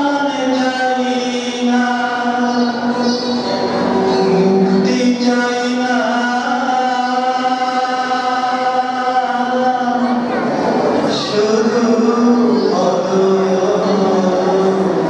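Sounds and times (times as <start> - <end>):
chanted vocal in long notes: 0.0 - 15.0
steady drone: 0.0 - 15.0.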